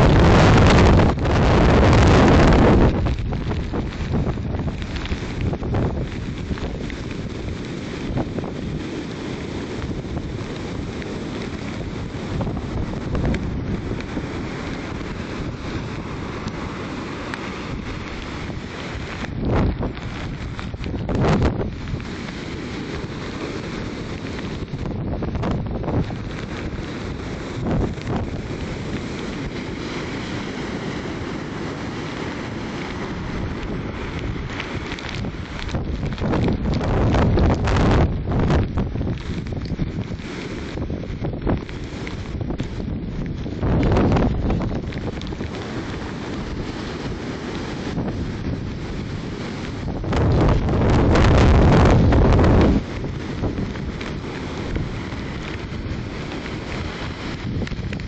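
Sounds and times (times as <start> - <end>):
surf breaking on beach: 0.0 - 58.0
wind buffeting microphone: 0.0 - 58.0.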